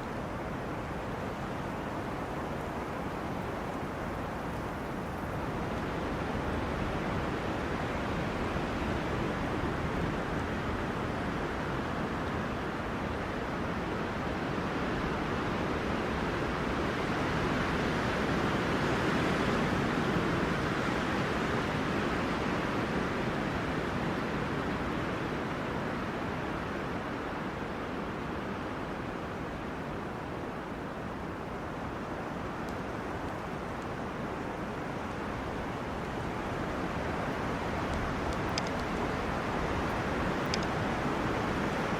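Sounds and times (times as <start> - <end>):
wind rushing through trees: 0.0 - 41.9.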